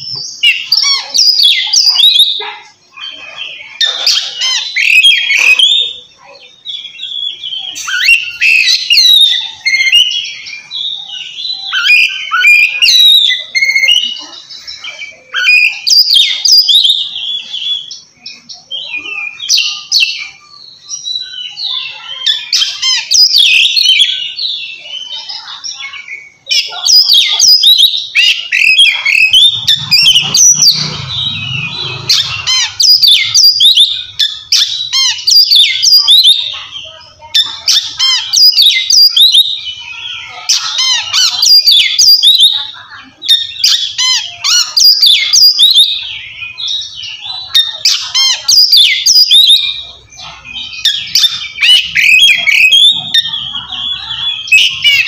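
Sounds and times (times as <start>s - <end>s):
bird whistling song: 0.0s - 2.5s, 6.7s - 55.0s.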